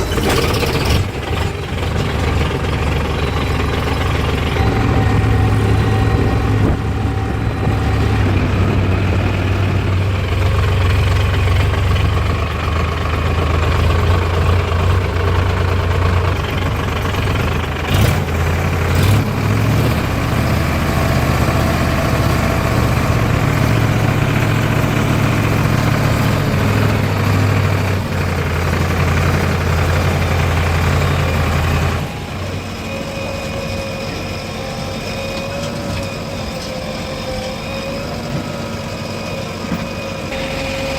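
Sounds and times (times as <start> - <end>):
diesel engine running hard: 0.0 - 40.9.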